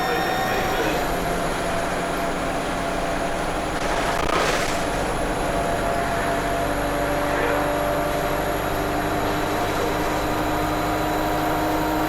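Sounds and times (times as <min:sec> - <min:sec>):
bus engine running: 0:00.0 - 0:12.0
high turbo whine: 0:00.0 - 0:12.0
road noise: 0:00.0 - 0:12.0.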